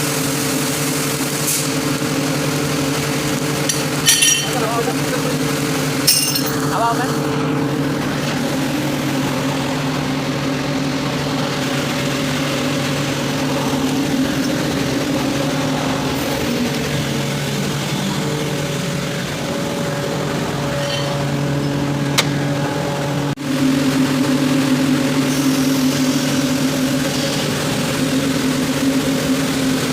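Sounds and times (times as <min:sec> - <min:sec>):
air compressor humming: 0:00.0 - 0:29.9.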